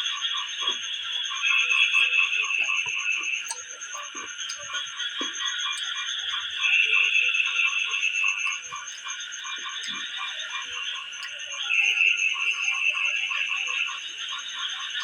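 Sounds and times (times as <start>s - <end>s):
frogs croaking rhythmically: 0.0s - 15.0s
frogs trilling: 0.0s - 15.0s.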